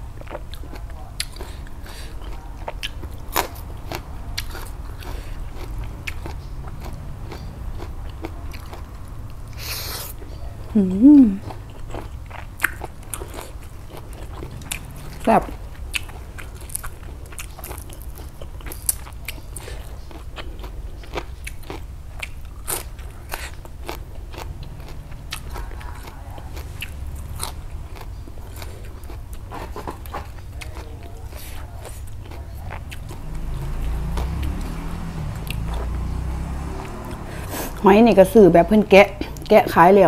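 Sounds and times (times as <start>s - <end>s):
chewing crunchy leafy greens: 0.0s - 37.9s.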